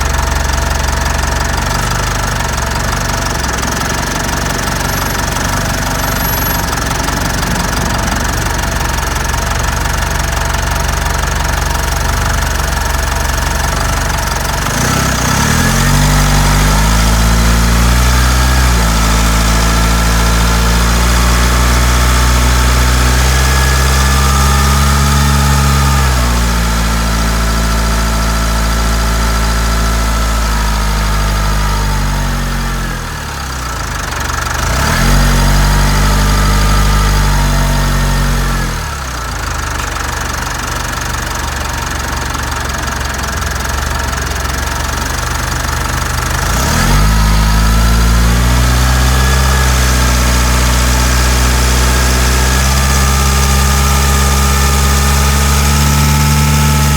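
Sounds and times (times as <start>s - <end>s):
diesel engine idling: 0.0s - 25.6s, 35.8s - 56.9s.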